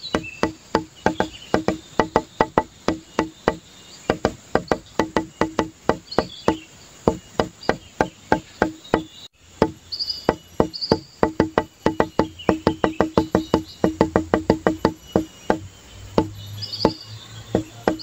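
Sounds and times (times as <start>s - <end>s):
wood block percussive beat: 0.0s - 18.0s.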